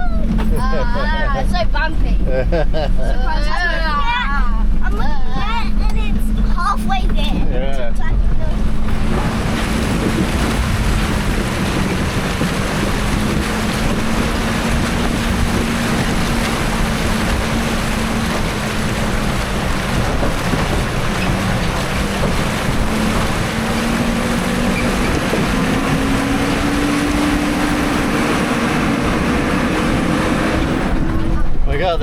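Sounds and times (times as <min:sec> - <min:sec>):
diesel truck engine running: 0:00.0 - 0:32.0
water rushing and splashing: 0:00.0 - 0:32.0.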